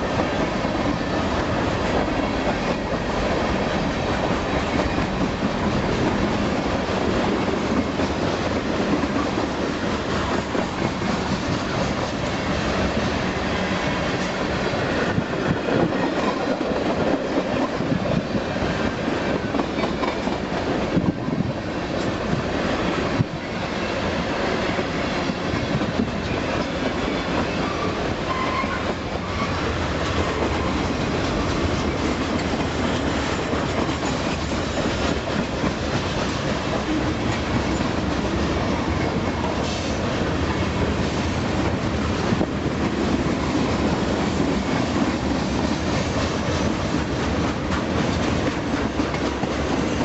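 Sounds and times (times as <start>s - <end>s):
freight train wheels clattering: 0.0s - 50.0s.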